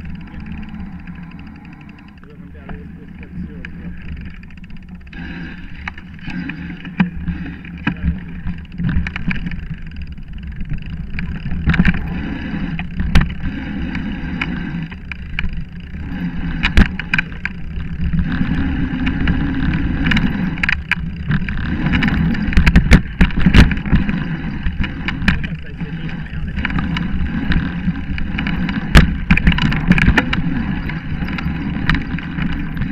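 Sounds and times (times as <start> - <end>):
bike knocking and rattling: 0.0 - 32.9
bike tyres rumbling on dirt: 0.0 - 32.9.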